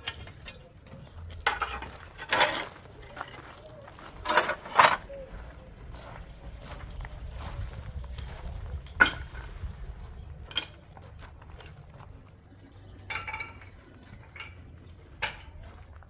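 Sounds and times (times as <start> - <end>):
dishes and cutlery clinking: 0.0 - 5.4, 7.9 - 16.0.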